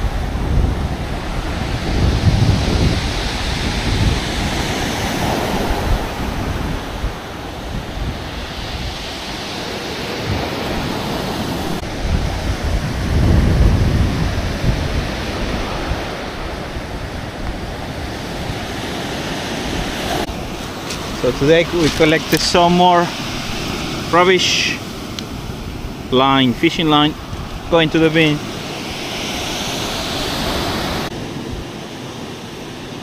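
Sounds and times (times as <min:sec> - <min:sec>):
sea surf washing onto beach: 0:00.0 - 0:33.0
wind buffeting microphone: 0:00.0 - 0:33.0.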